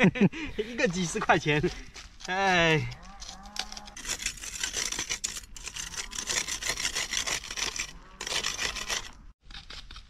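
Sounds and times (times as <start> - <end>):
soil scraped off tuber: 0.7 - 10.0.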